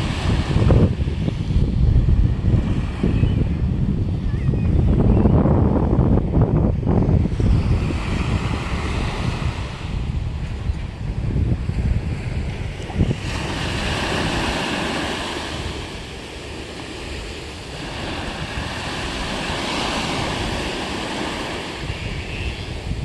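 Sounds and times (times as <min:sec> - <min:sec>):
sea waves breaking: 0:00.0 - 0:23.0
wind buffeting microphone: 0:00.0 - 0:23.0.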